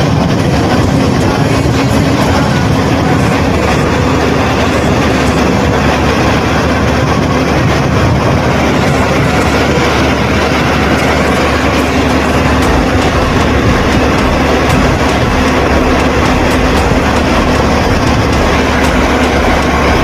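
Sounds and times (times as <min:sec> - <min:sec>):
pile driver machine noise: 0:00.0 - 0:20.0.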